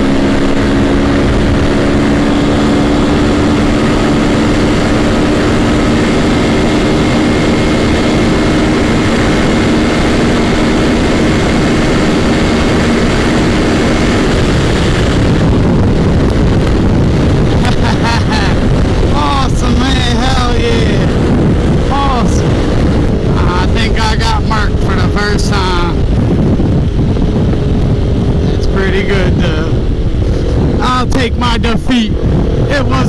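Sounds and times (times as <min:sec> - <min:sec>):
motorcycle engine cruising: 0:00.0 - 0:33.0
wind rushing over microphone: 0:00.0 - 0:33.0.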